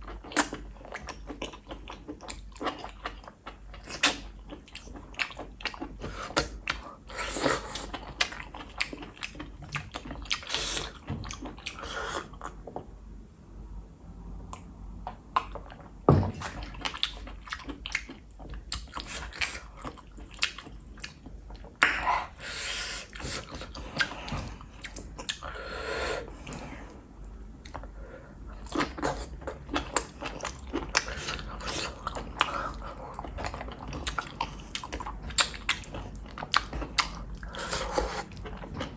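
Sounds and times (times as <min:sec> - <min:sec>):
chewing mushrooms: 0:00.0 - 0:12.7, 0:15.4 - 0:38.9.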